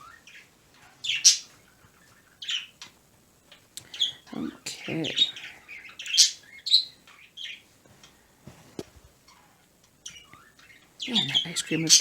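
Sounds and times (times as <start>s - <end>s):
pet birds chirping: 0.0s - 12.0s.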